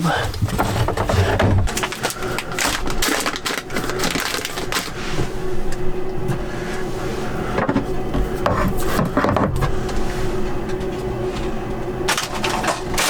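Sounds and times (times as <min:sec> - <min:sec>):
belongings rustling and clattering: 0:00.0 - 0:05.3, 0:07.5 - 0:13.0
steady low hum: 0:00.0 - 0:13.0.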